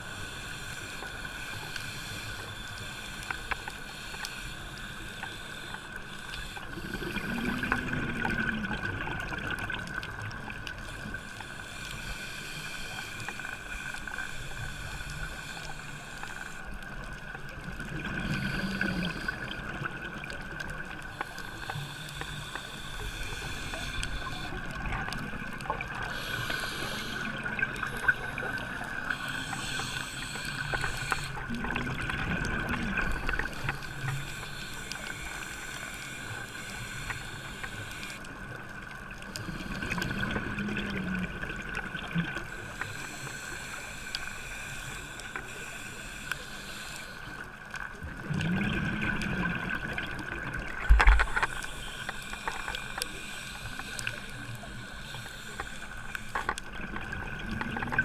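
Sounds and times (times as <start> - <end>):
muffled underwater wash: 0.0 - 58.0
scuba exhaust bubbles: 0.0 - 58.0.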